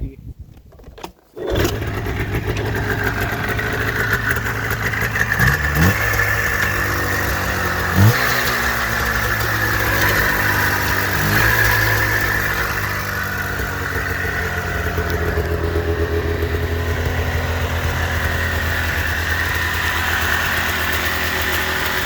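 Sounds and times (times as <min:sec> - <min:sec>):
snowmobile engine idling: 0:01.5 - 0:22.0.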